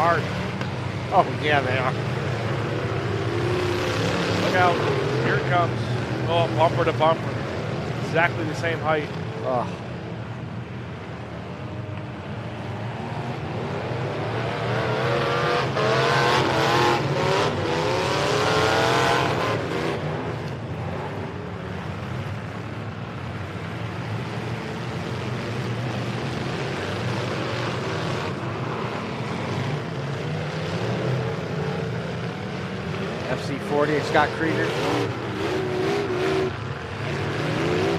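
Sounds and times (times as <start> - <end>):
truck engines revving hard: 0.0 - 37.9.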